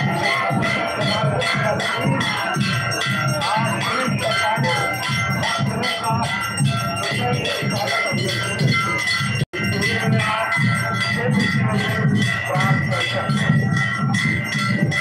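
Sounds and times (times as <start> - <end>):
metal bells ringing: 0.0 - 15.0
steady drum beat: 0.0 - 15.0.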